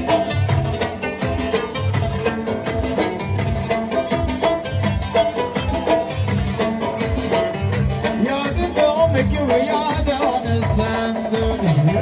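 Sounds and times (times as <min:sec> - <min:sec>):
dance music with drum beat: 0:00.0 - 0:12.0.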